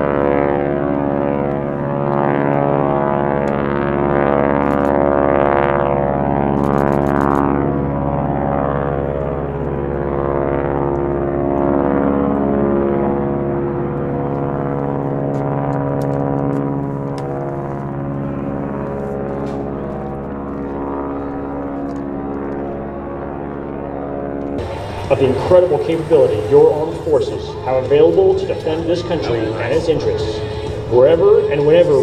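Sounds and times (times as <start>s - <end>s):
jet engines whooshing: 6.2s - 32.0s.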